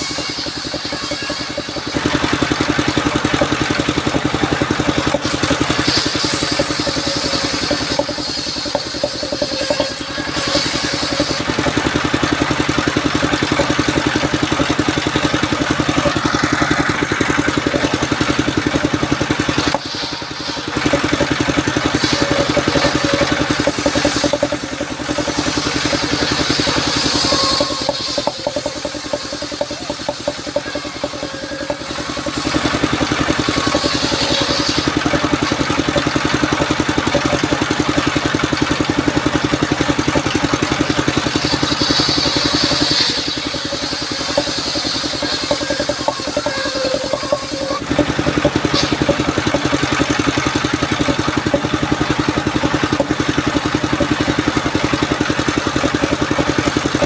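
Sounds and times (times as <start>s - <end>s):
engine running with fast pulse: 0.0s - 57.0s
sawmill blade ripping log: 0.0s - 57.0s.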